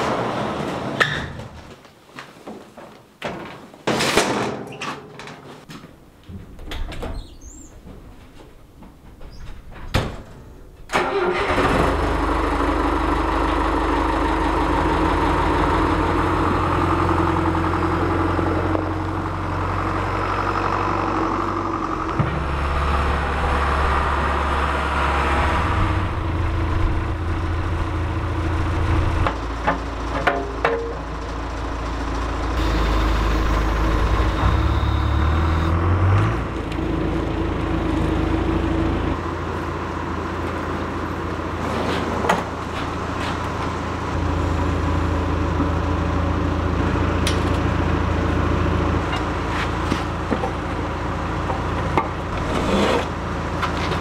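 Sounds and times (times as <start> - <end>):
diesel engine starting and running: 9.6 - 54.0.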